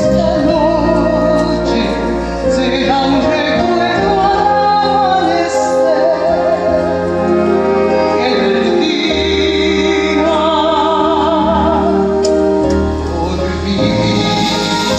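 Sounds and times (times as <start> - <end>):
orchestral accompaniment: 0.0 - 14.9
woman singing with vibrato: 0.0 - 14.9.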